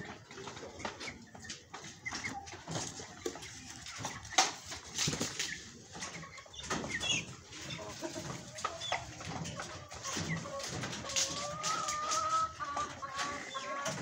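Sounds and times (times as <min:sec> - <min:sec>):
chicks peeping and clucking: 0:00.0 - 0:14.0.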